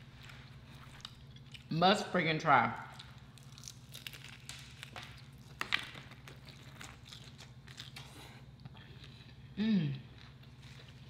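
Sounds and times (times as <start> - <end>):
chewing crispy fried chicken: 0.0 - 1.8, 2.8 - 11.0.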